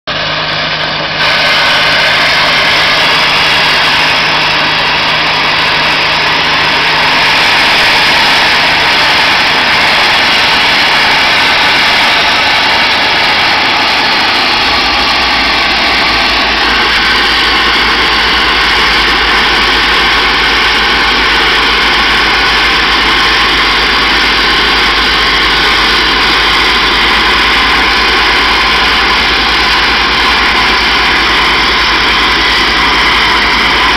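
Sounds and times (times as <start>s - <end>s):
deep hum: 0.1s - 33.9s.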